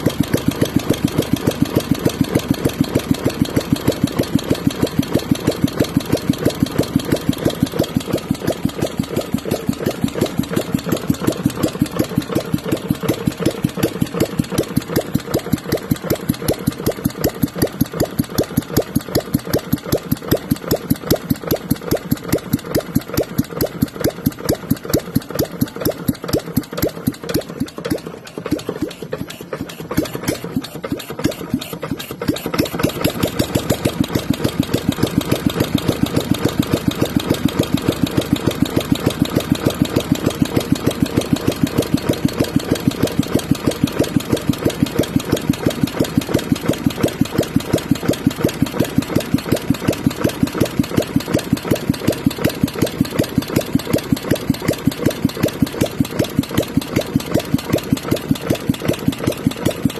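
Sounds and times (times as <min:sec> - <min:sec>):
single-cylinder engine running: 0:00.0 - 0:59.9.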